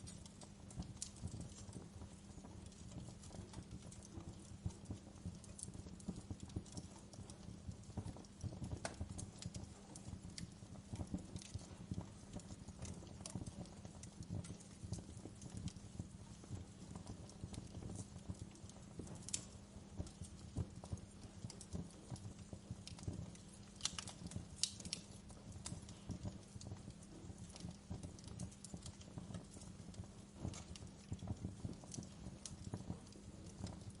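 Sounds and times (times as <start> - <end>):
low rumble of burning: 0.0 - 34.0
wood fire crackling: 0.0 - 34.0.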